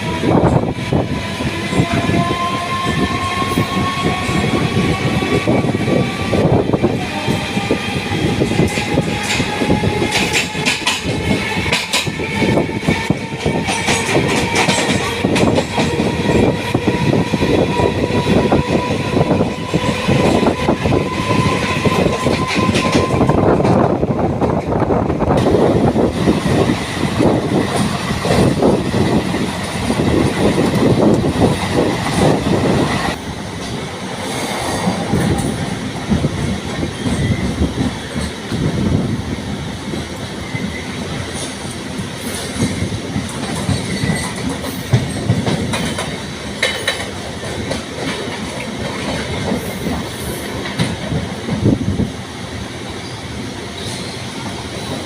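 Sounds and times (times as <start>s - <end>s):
train wheels clattering over rails: 0.0s - 39.1s, 39.8s - 52.1s.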